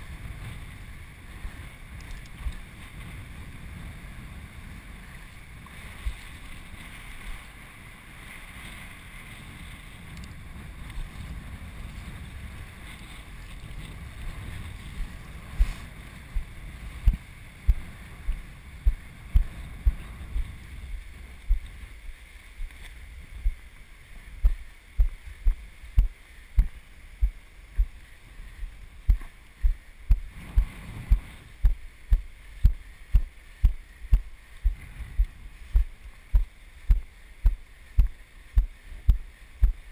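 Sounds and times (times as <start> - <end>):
wind on microphone: 0.0 - 39.9
footsteps on wet sand: 5.7 - 39.9.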